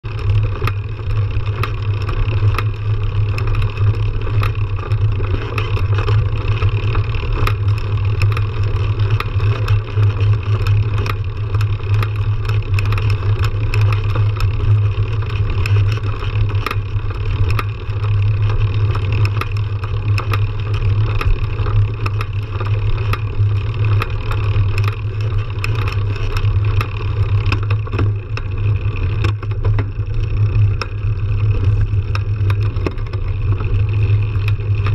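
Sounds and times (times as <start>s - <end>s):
bike clicks and rattles: 0.0s - 34.9s
bike tyres rumbling on dirt: 0.1s - 34.9s.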